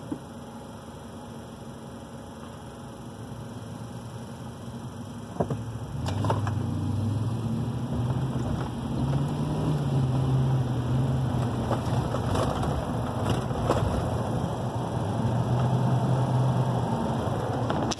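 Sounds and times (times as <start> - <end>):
car engine hum: 0.0 - 17.9.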